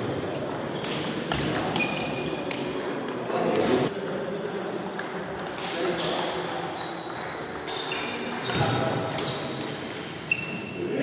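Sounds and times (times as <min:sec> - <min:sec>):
murmur of voices: 0:00.0 - 0:11.0.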